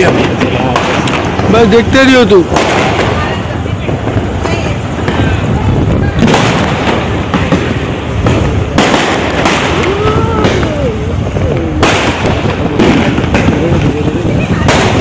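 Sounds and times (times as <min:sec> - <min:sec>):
firecrackers crackling and popping: 0:00.0 - 0:15.0
fireworks bursting: 0:00.0 - 0:15.0
loud bangs: 0:00.0 - 0:15.0.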